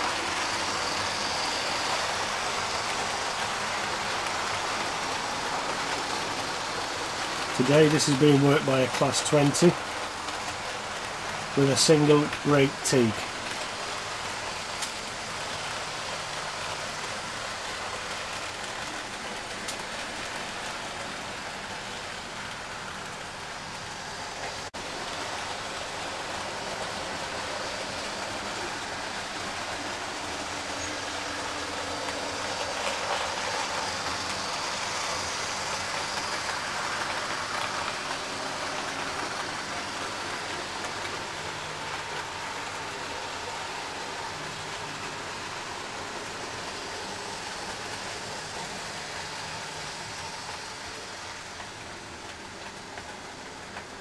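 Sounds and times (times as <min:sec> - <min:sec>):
model train motor hum: 0:00.0 - 0:54.0
train wheels rumbling: 0:00.0 - 0:54.0.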